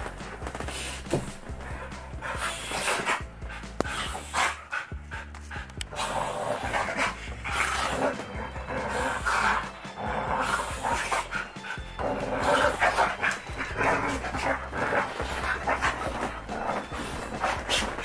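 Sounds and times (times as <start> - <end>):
dogs panting: 0.0 - 18.0
dogs play-fighting: 0.0 - 18.0.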